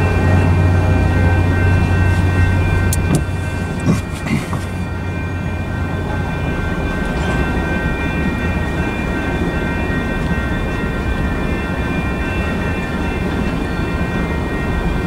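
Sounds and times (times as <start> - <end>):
crossing bell ringing: 0.0 - 15.0
train wheels rumbling on rail: 0.0 - 15.0.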